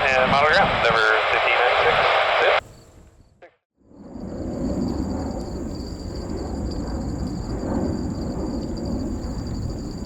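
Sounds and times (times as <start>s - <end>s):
jet engines rumbling: 0.0s - 10.0s.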